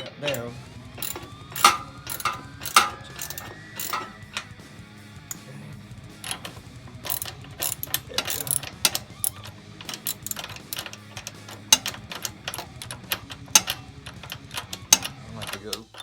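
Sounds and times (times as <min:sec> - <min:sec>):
ratchet strap clicking: 0:00.3 - 0:04.6, 0:06.2 - 0:16.0.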